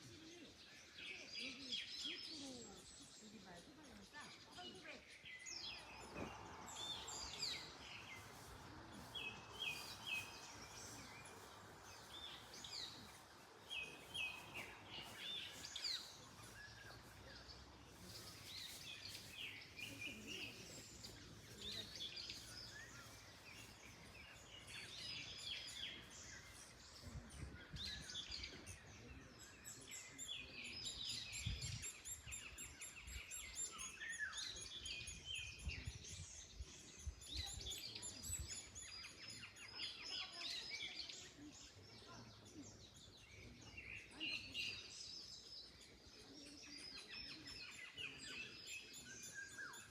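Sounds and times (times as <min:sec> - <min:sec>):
songbirds chirping and singing: 0:00.0 - 0:49.9
wind in the trees: 0:04.3 - 0:49.2.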